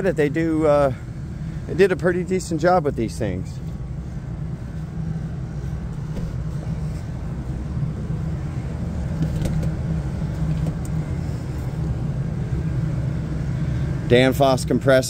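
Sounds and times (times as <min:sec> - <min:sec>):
mechanical hum of hvac unit: 0:00.0 - 0:15.0.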